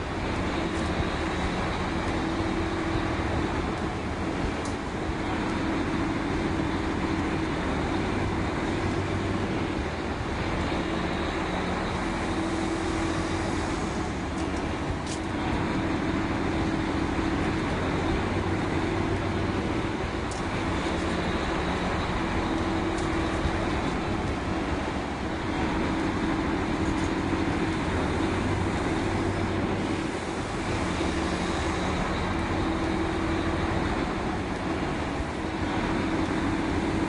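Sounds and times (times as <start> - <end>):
drilling machinery droning: 0.0 - 37.0.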